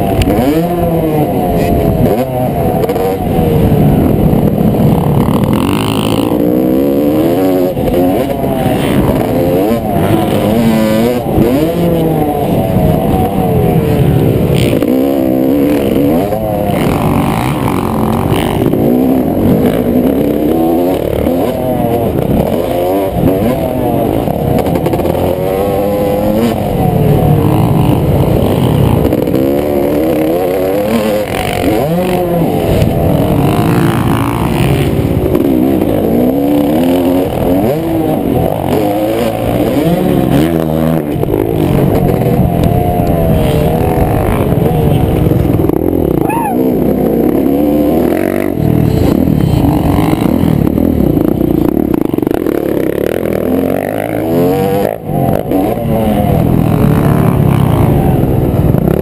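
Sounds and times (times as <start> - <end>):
two-stroke motocross engine revving: 0.0 - 59.0.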